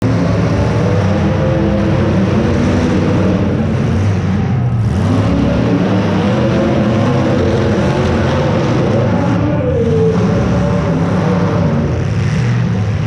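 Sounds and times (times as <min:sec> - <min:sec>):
car engines revving at full throttle: 0:00.0 - 0:13.0.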